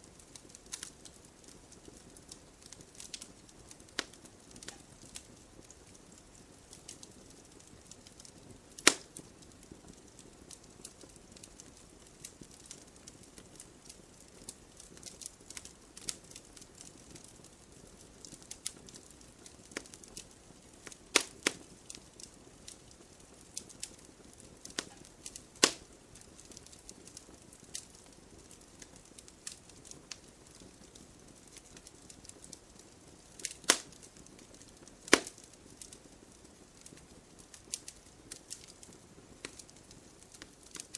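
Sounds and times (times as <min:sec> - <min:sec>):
burning wood popping: 0:00.0 - 0:40.9
campfire crackling: 0:00.0 - 0:40.9.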